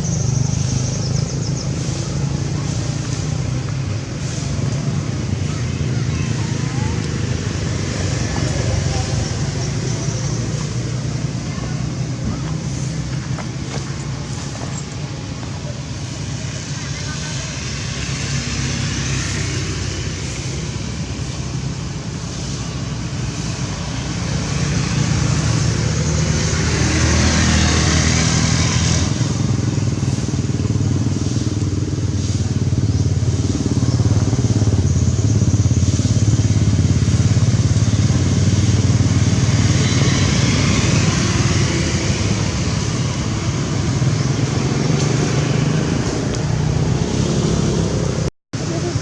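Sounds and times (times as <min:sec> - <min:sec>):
vehicle engine hum: 0:00.0 - 0:49.0.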